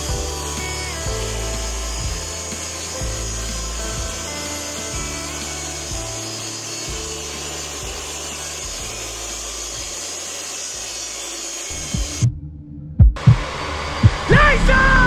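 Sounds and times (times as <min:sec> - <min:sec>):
table saw cutting wood: 0:00.0 - 0:12.2
background music: 0:00.0 - 0:15.0.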